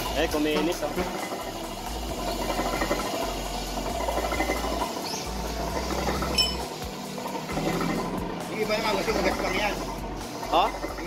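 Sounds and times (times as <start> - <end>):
lathe motor humming: 0.0 - 11.0
sandpaper scratching on brake rotor: 0.0 - 11.0.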